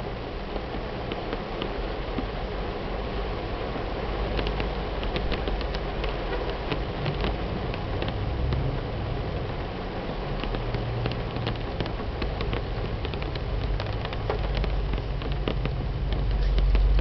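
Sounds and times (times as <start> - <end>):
rain on car windshield and roof: 0.0 - 17.0.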